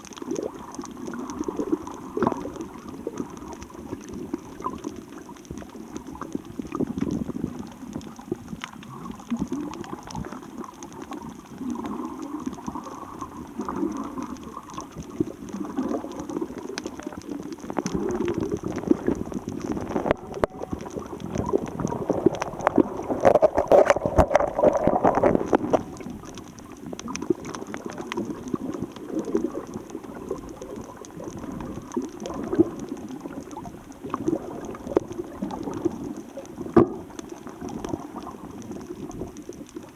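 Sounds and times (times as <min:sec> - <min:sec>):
seawater sloshing and gurgling: 0:00.0 - 0:39.9
small clicks: 0:00.0 - 0:39.9
water bubbling: 0:00.0 - 0:39.9.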